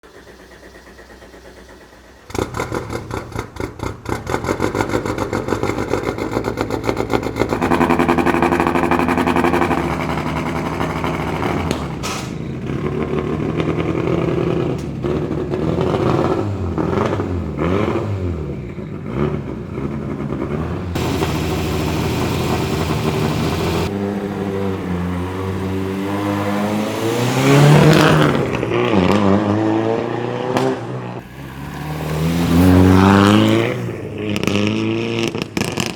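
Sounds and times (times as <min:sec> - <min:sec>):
car engine revving: 0:00.0 - 0:35.9
car engine starting: 0:00.0 - 0:35.9.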